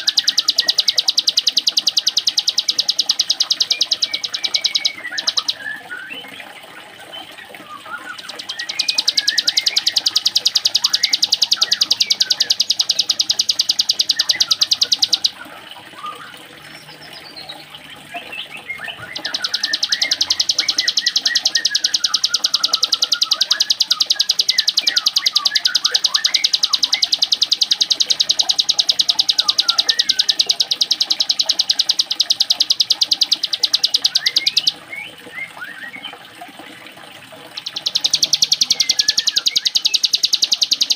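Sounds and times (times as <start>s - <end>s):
other birds chirping: 0.0s - 36.6s, 37.2s - 40.9s
bird high-pitched rattling song: 0.0s - 40.9s.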